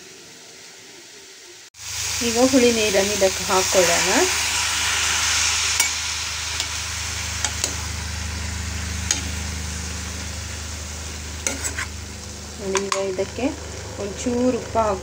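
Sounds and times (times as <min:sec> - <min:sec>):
sizzling hiss in a pan: 0:00.0 - 0:15.0.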